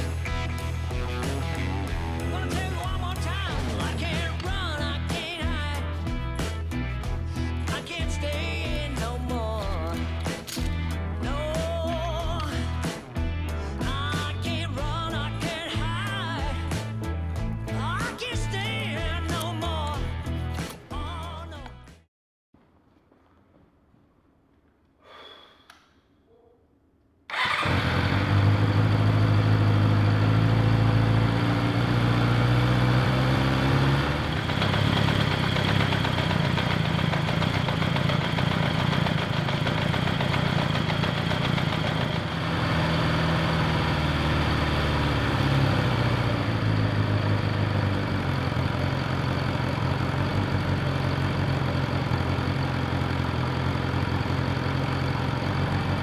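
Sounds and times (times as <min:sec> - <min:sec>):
motorcycle engine running: 0:00.0 - 0:20.4, 0:27.3 - 0:56.0.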